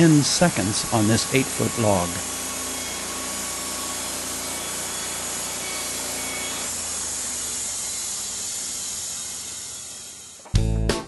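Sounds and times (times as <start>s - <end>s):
band saw blade rasping through wood: 0.0s - 10.4s.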